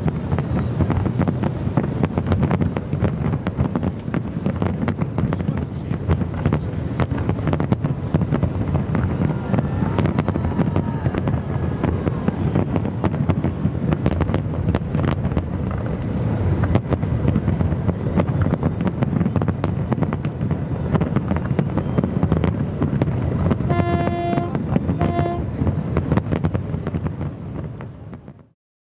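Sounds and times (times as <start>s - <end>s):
wind buffeting microphone: 0.0s - 28.5s.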